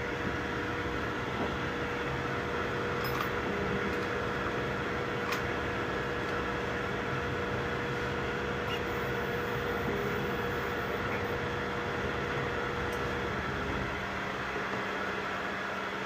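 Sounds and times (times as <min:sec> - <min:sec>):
constant hum: 0:00.0 - 0:16.0
cooling fans whirring: 0:00.0 - 0:16.0.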